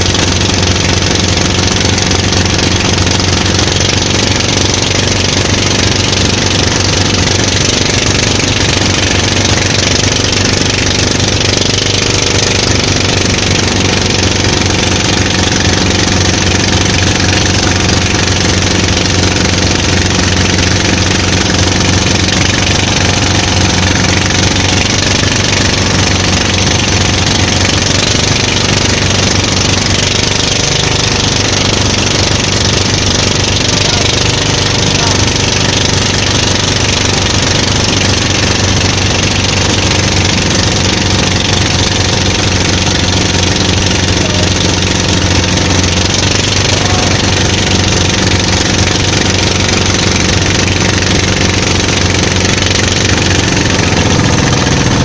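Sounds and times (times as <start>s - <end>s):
boat engine droning: 0.0s - 55.0s
water rushing: 0.0s - 55.0s.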